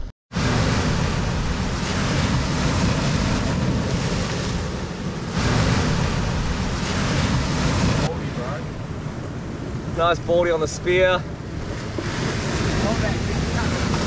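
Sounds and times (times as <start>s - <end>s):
ocean surf breaking on rocks: 0.4s - 14.0s
wind buffeting microphone: 0.4s - 14.0s.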